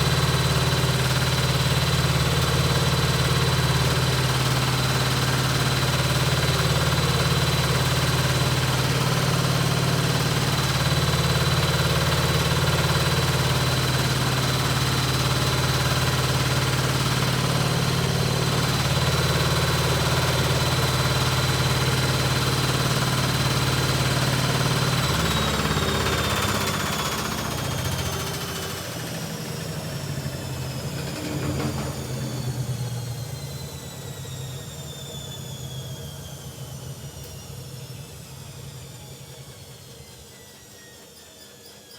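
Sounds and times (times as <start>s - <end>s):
washing machine drum spinning: 0.0s - 34.6s.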